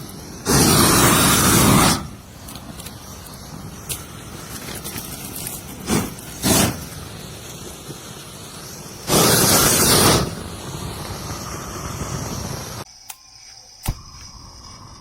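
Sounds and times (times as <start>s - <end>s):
torch flame hissing: 0.0s - 12.9s.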